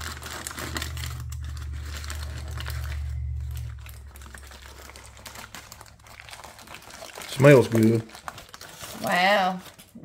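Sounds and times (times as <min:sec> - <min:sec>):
aluminium foil crinkling: 0:00.0 - 0:10.0
low steady hum: 0:00.0 - 0:10.0.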